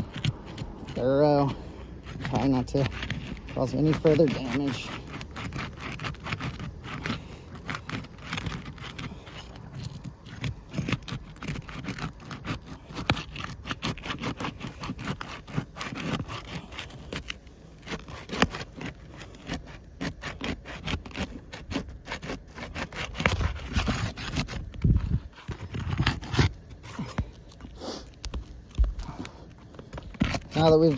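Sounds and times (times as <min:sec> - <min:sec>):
pry tool scraping under shingles: 0:00.0 - 0:30.9.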